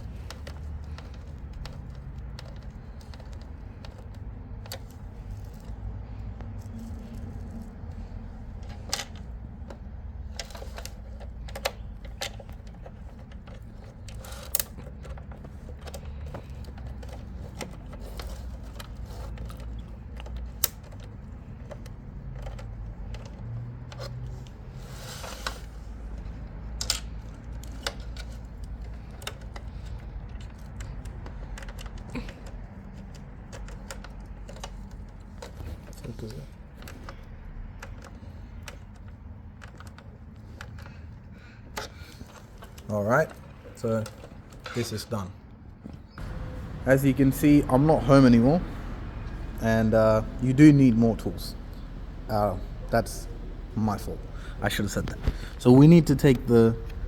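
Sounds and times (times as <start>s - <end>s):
clicks and taps of screwing: 0.0s - 44.9s, 45.8s - 57.0s.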